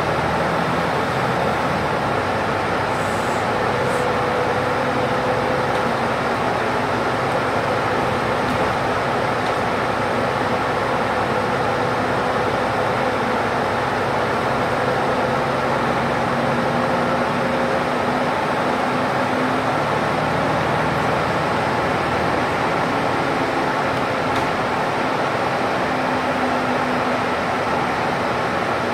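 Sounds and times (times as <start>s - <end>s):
bus engine drone: 0.0s - 28.9s
road noise: 0.0s - 28.9s.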